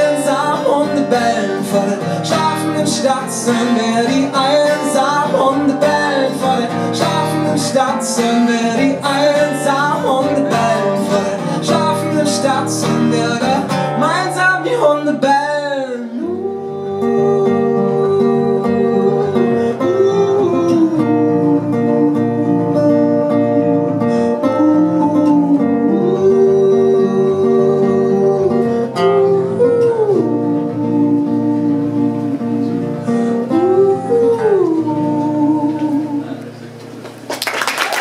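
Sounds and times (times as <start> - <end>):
man singing wordless notes: 0.0 - 36.8
acoustic guitar strumming: 0.0 - 37.2.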